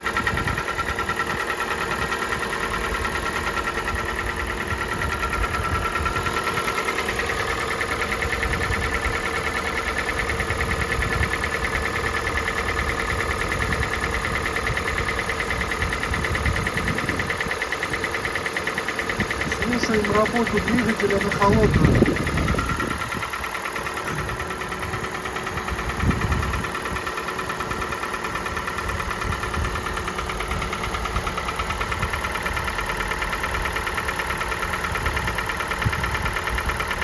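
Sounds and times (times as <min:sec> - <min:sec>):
car engine idling with ticking knock: 0:00.0 - 0:37.0.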